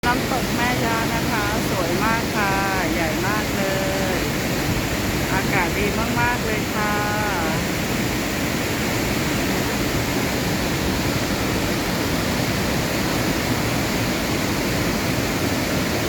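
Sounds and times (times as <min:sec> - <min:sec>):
large waterfall thundering: 0:00.0 - 0:16.0.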